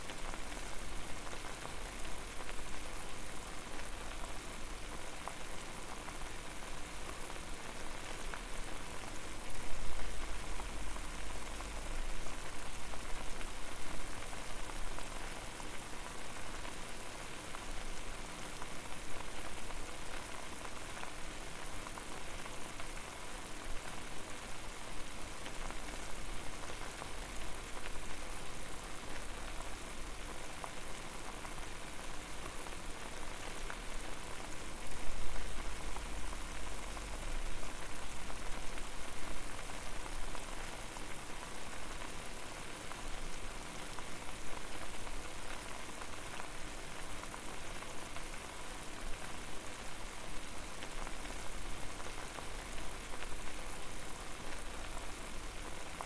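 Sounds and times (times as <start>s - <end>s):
water boiling hard: 0.1s - 56.0s.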